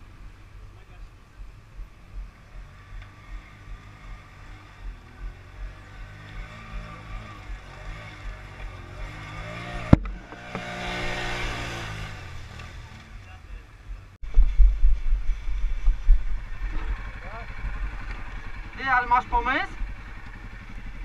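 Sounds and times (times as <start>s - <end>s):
atv engine revving: 0.0s - 14.0s, 15.3s - 21.0s.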